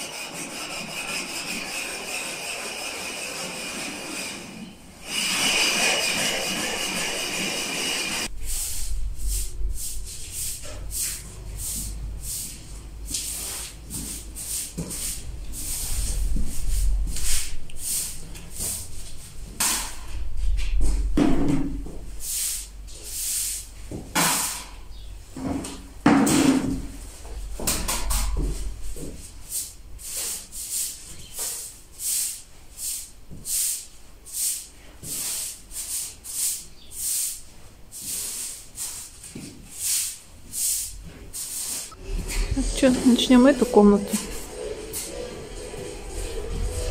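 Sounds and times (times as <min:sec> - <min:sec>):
broom sweeping tiled floor: 0:00.0 - 0:46.9.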